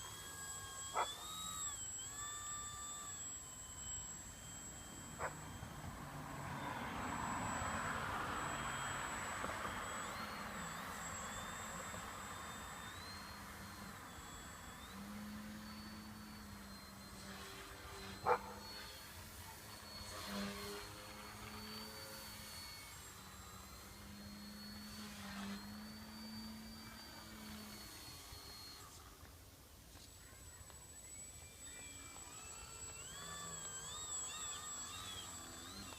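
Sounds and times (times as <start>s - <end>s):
model airplane motor whining: 0.0s - 35.9s.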